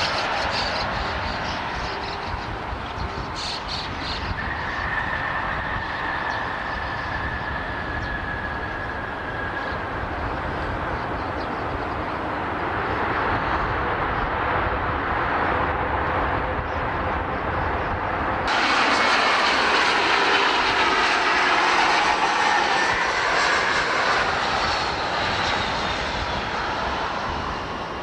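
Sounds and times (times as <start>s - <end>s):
high jet engine whine: 0.0s - 28.0s
jet engines rumbling: 0.0s - 28.0s.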